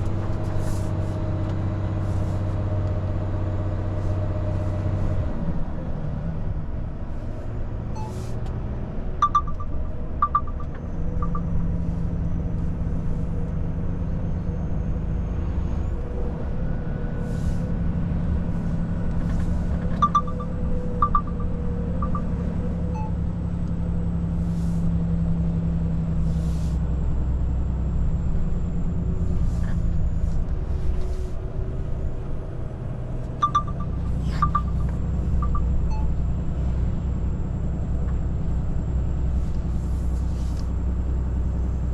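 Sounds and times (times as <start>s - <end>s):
truck engine and tyre drone: 0.0s - 41.9s.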